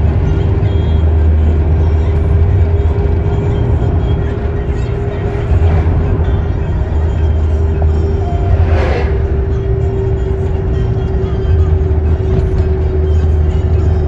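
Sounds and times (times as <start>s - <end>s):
low rumble of moving vehicle: 0.0s - 14.0s.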